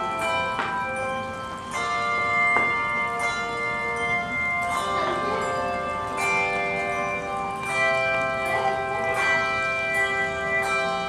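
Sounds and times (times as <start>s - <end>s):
handbells ringing in chords: 0.0s - 11.0s.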